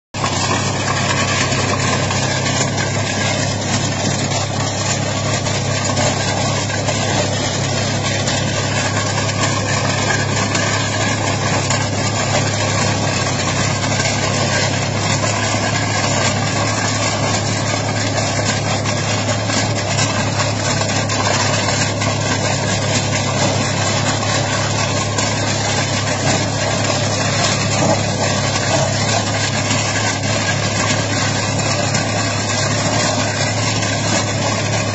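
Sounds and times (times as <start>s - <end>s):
tractor engine and machine droning: 0.1s - 34.9s.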